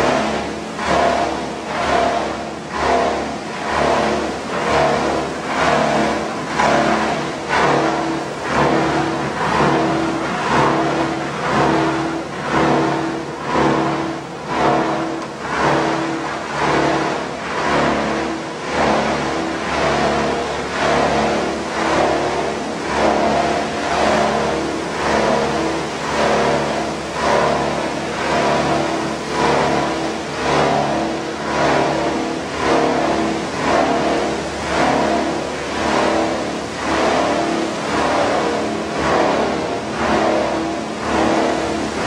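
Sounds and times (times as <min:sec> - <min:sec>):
recycling machinery humming: 0:00.0 - 0:42.0.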